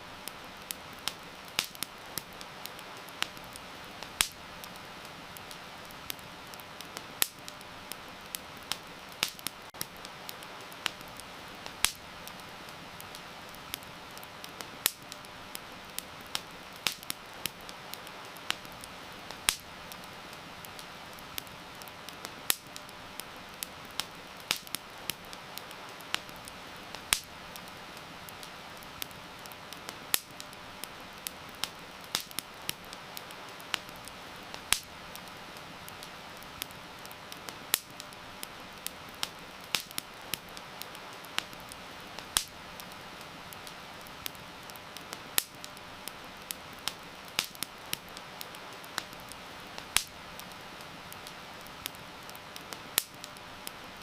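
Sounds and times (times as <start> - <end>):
campfire crackling and popping: 0.0 - 54.0
heavy rain hissing: 0.0 - 54.0.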